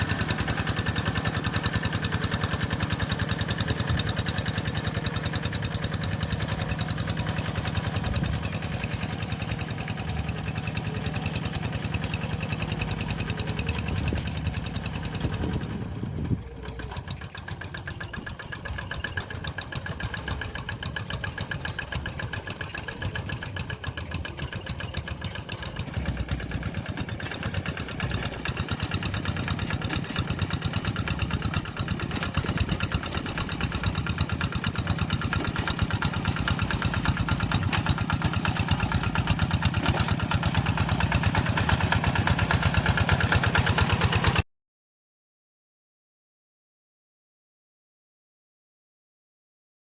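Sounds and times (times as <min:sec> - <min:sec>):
tractor engine chugging: 0:00.0 - 0:44.4.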